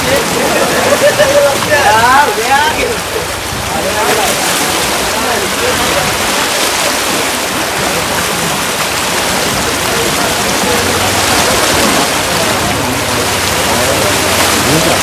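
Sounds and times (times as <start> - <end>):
water gushing through sluice gate: 0.0 - 15.0.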